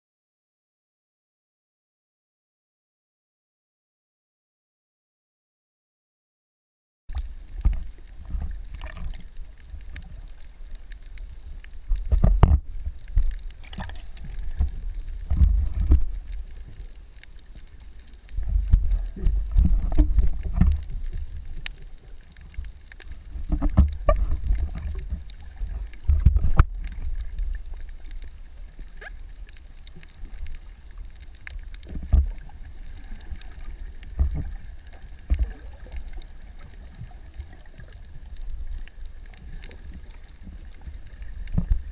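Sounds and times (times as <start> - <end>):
faint clicks: 7.1 - 41.9
muffled underwater rumbles: 7.1 - 41.9.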